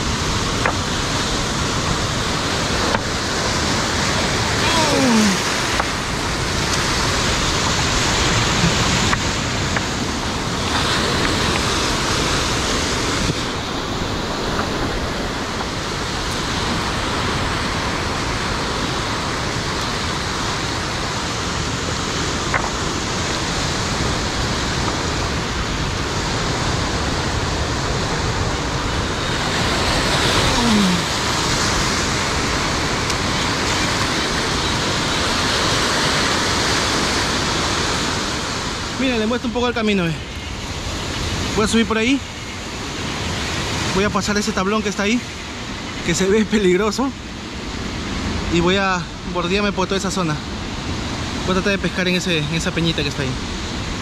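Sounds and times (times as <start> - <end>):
sea surf breaking on rocks: 0.0 - 54.0.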